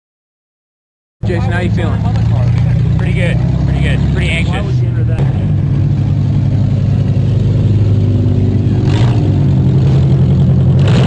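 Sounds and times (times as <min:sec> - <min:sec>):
car engine running: 0:01.2 - 0:11.0.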